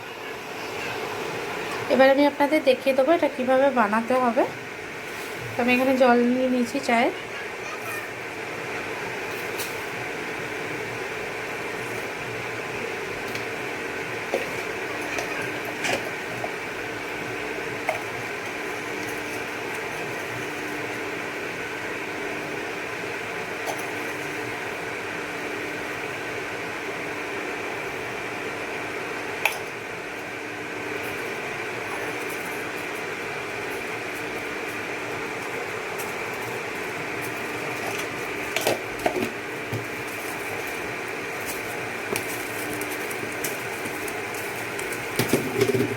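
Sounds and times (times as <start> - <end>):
induction cooktop whirring hum: 0.0 - 45.9.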